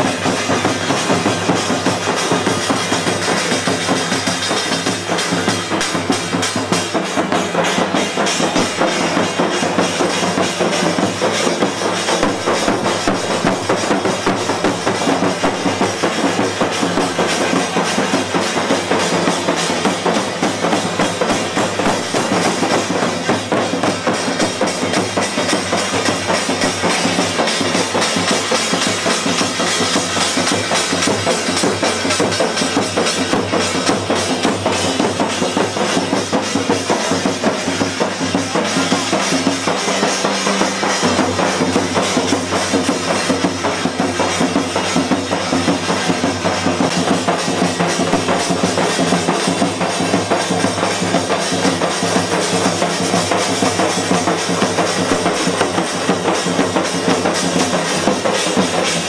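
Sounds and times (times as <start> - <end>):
loud fast drumming: 0.0 - 59.0
music: 0.0 - 59.0.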